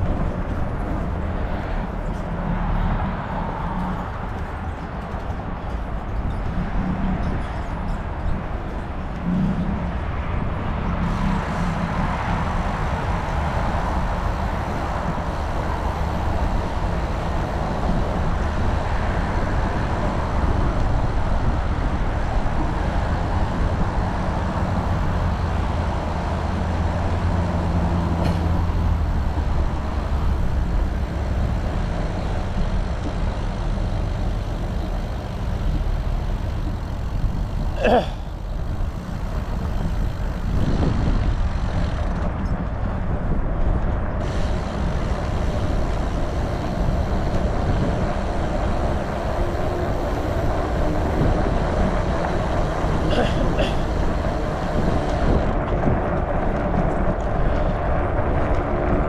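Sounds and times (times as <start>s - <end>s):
engine hum: 0.0s - 59.0s
road traffic passing: 0.0s - 59.0s.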